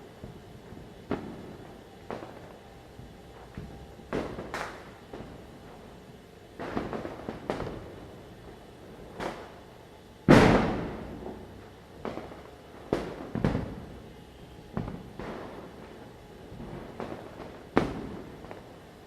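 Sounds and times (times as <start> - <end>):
firecrackers banging with echo: 0.0 - 19.0.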